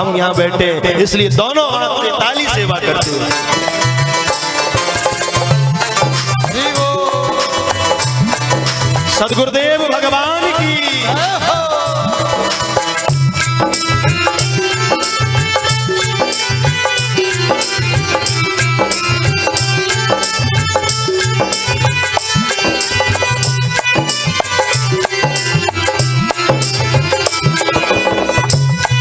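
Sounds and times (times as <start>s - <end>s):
hand-drum beat: 2.4s - 29.0s.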